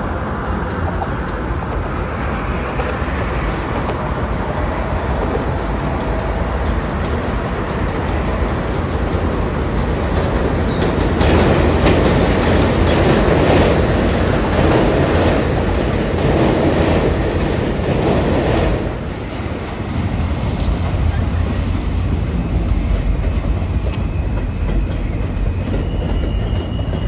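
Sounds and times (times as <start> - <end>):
subway train wheels clattering: 0.0 - 27.0.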